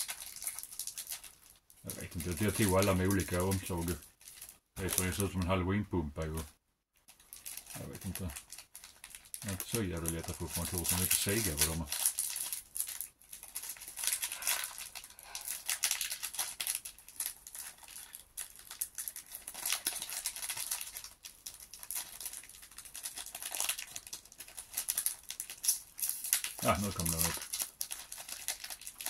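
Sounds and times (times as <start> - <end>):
foil wrapper crinkling and tearing: 0.0 - 5.6, 7.0 - 29.0.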